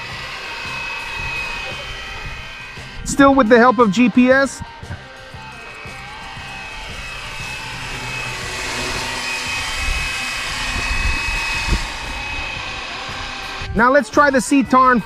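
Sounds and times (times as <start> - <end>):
wind rumbling on microphone: 0.0 - 13.9
electric motor whine: 0.0 - 15.0
toy helicopter rotor whooshing: 0.0 - 15.0.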